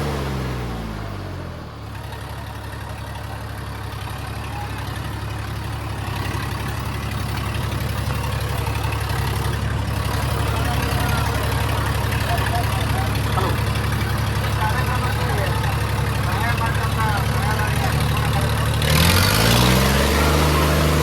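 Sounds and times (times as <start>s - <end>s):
tractor diesel engine: 0.0s - 21.0s.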